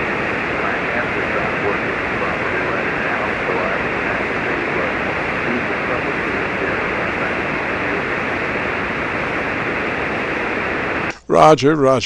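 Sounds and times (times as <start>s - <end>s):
radio receiver hiss and static: 0.0s - 11.6s.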